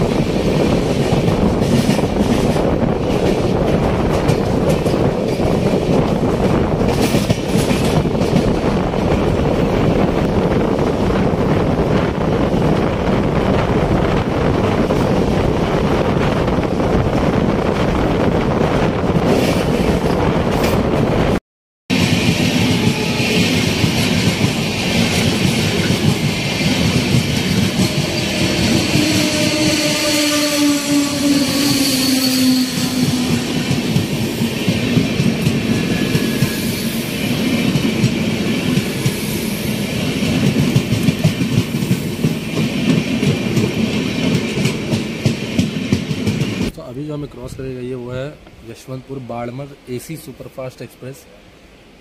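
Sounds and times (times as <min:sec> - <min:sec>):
wind rushing: 0:00.0 - 0:46.7
train wheels rumbling on rails: 0:00.0 - 0:49.0
passing train: 0:00.0 - 0:52.0.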